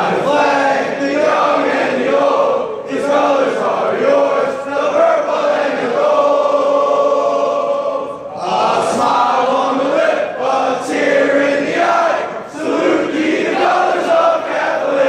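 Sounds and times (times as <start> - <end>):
boys singing together: 0.0 - 15.0.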